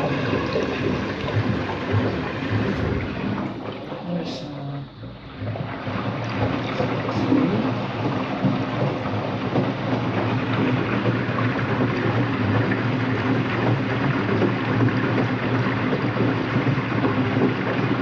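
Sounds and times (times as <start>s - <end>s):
washing machine humming and grinding: 0.0s - 18.0s.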